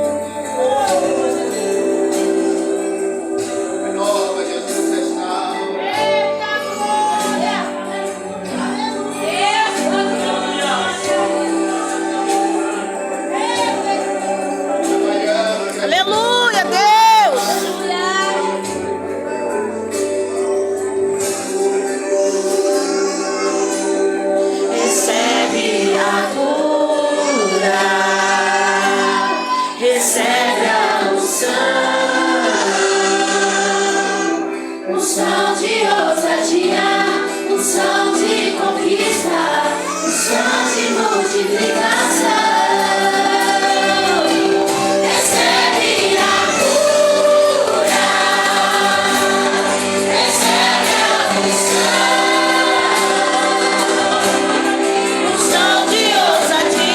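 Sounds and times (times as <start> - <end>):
group singing gospel song: 0.0 - 56.9.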